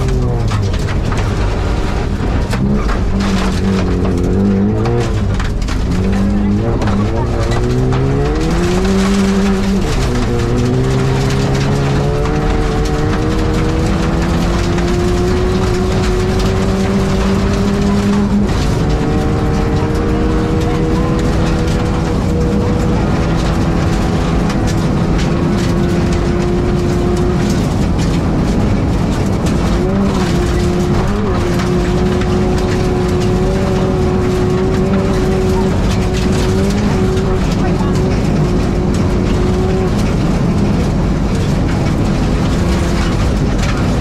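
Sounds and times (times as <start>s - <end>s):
rally car engine: 0.0s - 44.0s
tyre and road noise: 0.0s - 44.0s.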